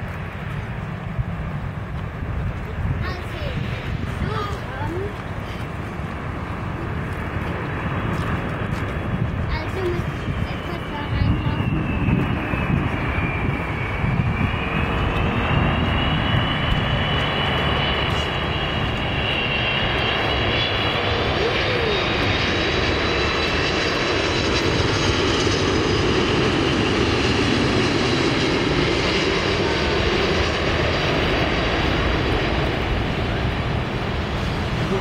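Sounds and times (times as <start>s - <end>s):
high engine whine: 0.0s - 35.0s
jet engines of airliner landing: 0.0s - 35.0s.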